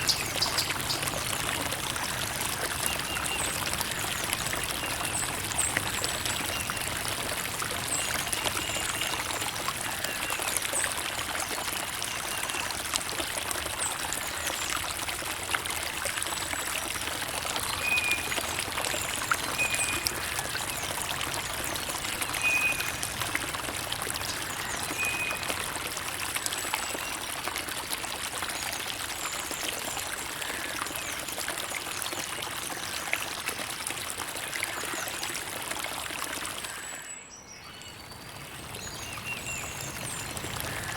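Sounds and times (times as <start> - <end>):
creek water trickling: 0.0 - 40.9.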